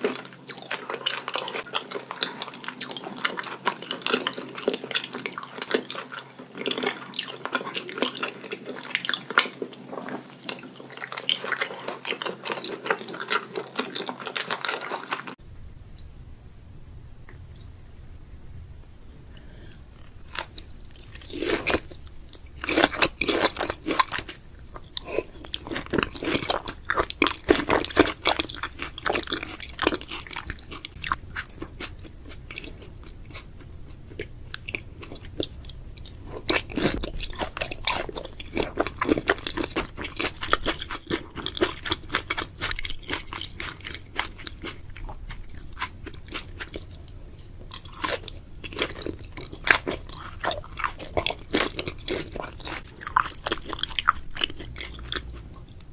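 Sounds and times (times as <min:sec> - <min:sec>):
person chewing wetly: 0:00.0 - 0:15.4, 0:20.0 - 0:55.9.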